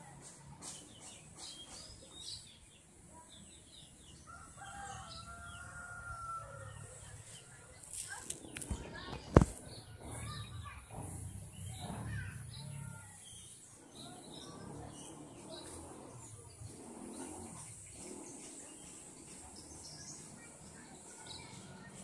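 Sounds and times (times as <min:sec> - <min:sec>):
bird chirps and calls: 0:00.6 - 0:22.0.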